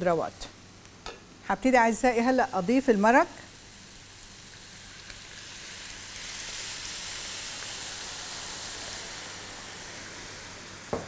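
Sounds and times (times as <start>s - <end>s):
broth sizzling in hot wok: 0.0s - 11.0s.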